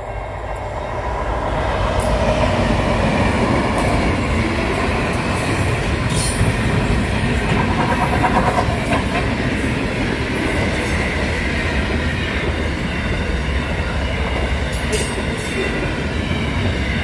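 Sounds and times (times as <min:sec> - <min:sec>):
freight train rumbling past: 0:00.0 - 0:17.0
wheels clacking on rails: 0:00.0 - 0:17.0.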